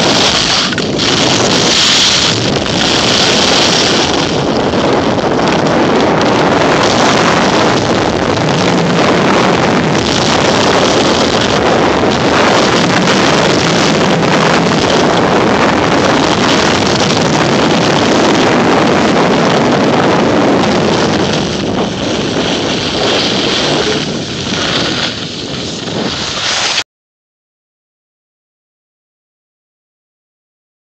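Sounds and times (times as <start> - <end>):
wind buffeting microphone: 0.0 - 26.5
skis scraping over snow: 0.0 - 26.8.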